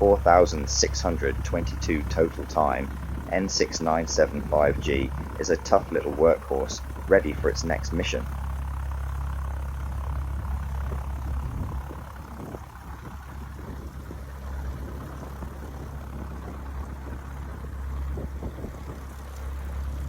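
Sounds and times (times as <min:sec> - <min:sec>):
light aircraft engine drone: 0:00.0 - 0:20.0.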